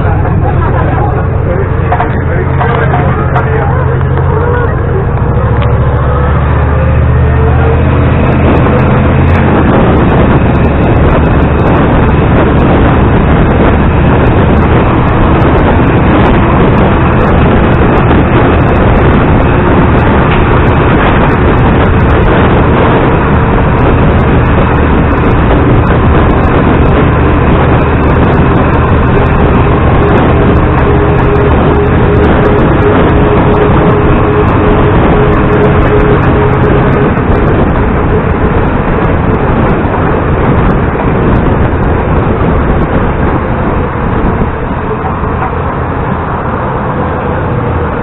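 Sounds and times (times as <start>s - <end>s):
bus engine drone: 0.0s - 48.0s
wind buffeting microphone: 0.0s - 48.0s.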